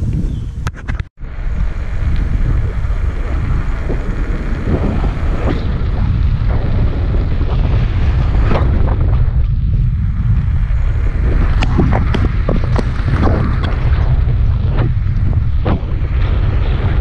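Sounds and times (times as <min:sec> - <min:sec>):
wind buffeting microphone: 0:00.0 - 0:17.0
bicycle tyre noise: 0:00.7 - 0:17.0.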